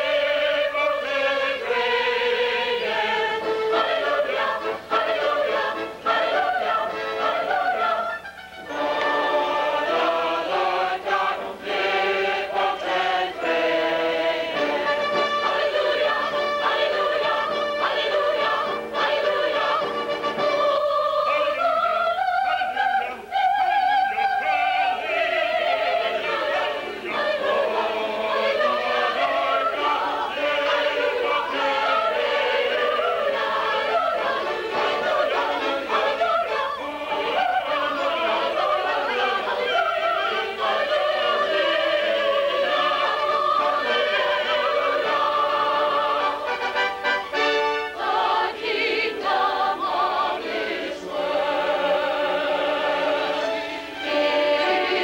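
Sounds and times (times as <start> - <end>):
choir singing with vibrato: 0.0 - 55.0
musical accompaniment: 0.0 - 55.0.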